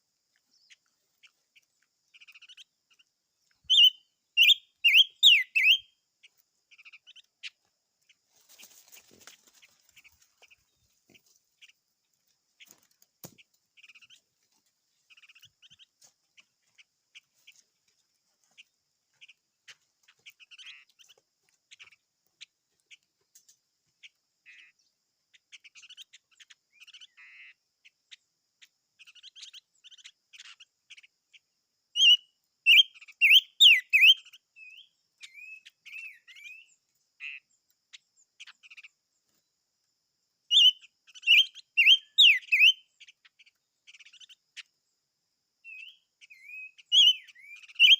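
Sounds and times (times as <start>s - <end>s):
songbird chirping and warbling: 0.0s - 47.9s.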